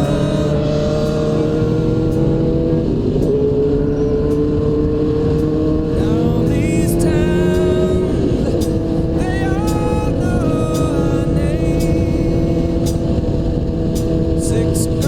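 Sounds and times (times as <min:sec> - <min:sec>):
motorcycle engine accelerating: 0:00.0 - 0:15.0
rushing wind: 0:00.0 - 0:15.0.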